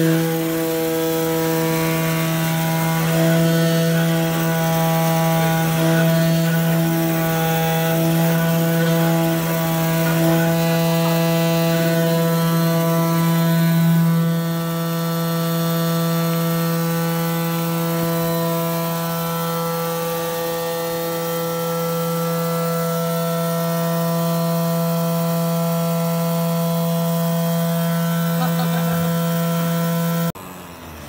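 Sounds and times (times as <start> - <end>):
mechanical hum of knife cutter: 0.0 - 31.0.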